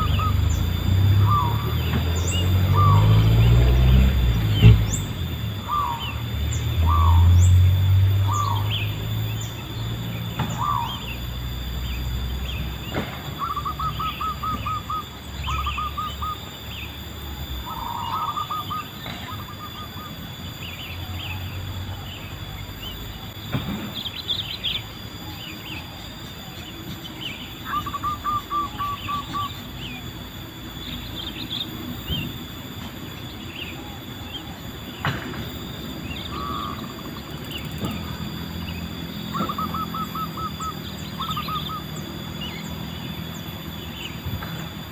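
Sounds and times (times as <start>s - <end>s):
dove cooing: 0.0s - 23.4s, 24.8s - 30.6s, 33.0s - 42.8s
small birds chirping: 0.0s - 44.9s.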